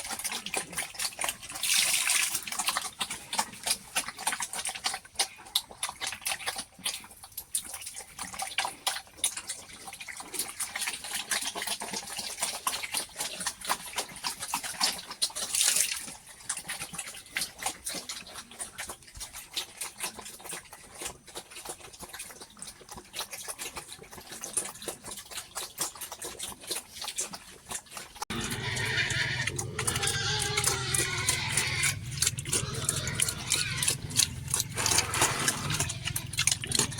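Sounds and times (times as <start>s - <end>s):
pigs chomping: 0.0s - 36.9s.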